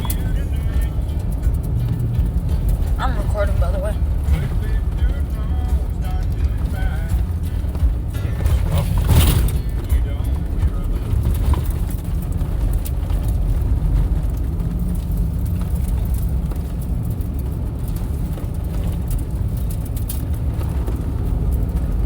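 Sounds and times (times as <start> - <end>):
off-road vehicle engine rumble: 0.0 - 22.0
small clicks and rattles: 0.0 - 22.0.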